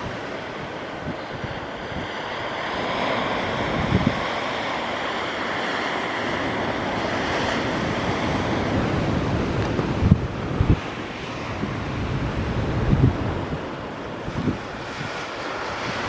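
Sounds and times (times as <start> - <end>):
wind bumping microphone: 0.0 - 4.6, 6.4 - 16.0
jet engine roar: 0.0 - 16.0.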